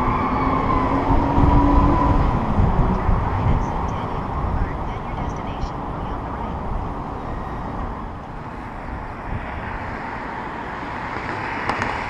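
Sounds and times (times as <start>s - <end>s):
road traffic noise: 0.0s - 12.0s
wind on microphone: 0.0s - 12.0s.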